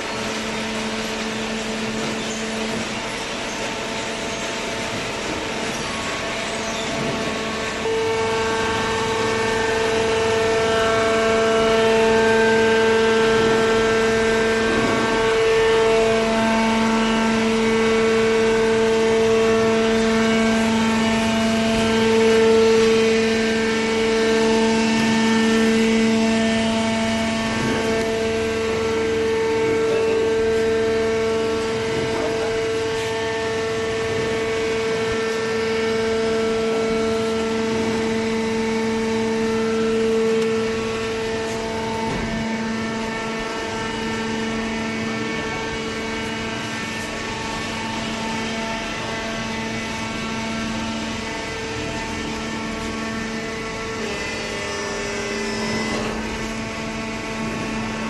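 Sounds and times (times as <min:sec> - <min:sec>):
baler motor and hydraulic pump hum: 0:00.0 - 0:58.0.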